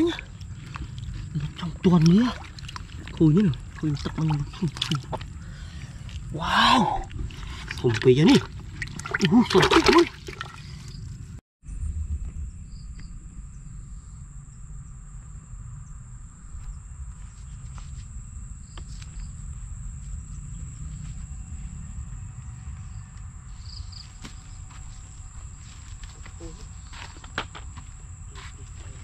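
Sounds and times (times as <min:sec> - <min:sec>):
low rumble: 0:00.0 - 0:09.4, 0:10.1 - 0:26.9.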